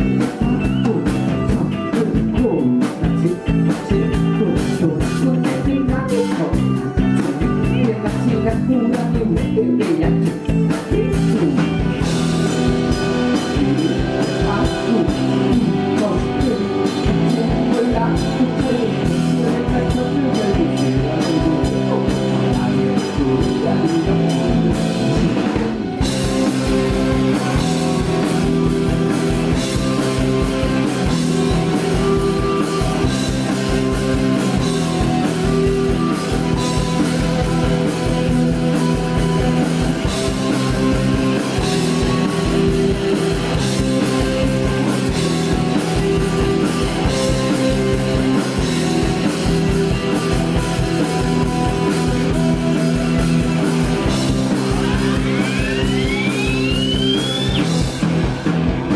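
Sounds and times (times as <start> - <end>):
bass guitar: 0.0 - 58.9
distorted electric guitars: 0.0 - 58.9
drum kit beat: 0.0 - 58.9.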